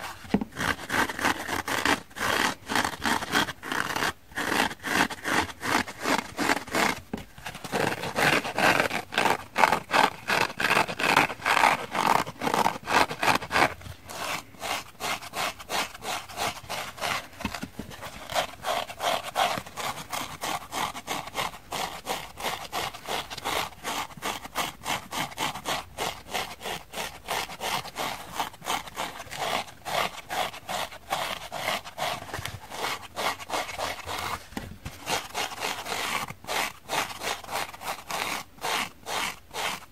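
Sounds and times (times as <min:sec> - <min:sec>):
fingernails scratching sponge: 0:00.0 - 0:39.9.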